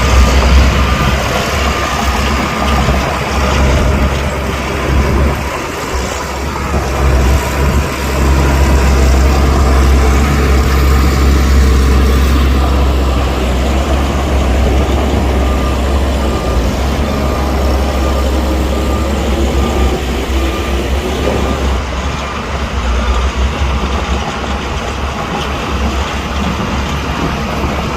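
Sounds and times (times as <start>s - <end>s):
heavy diesel machinery running: 0.0s - 27.9s.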